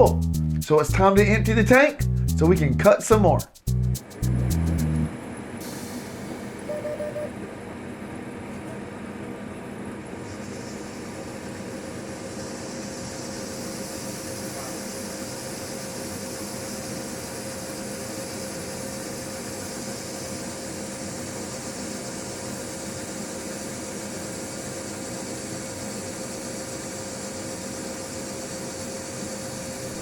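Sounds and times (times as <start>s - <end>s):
combine harvester drone with whine: 4.0s - 30.0s.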